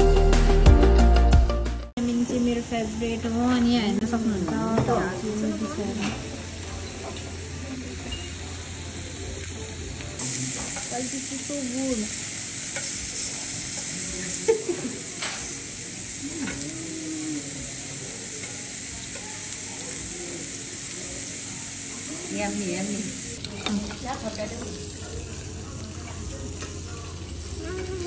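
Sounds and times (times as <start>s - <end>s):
meat sizzling on grill pan: 2.1s - 28.0s.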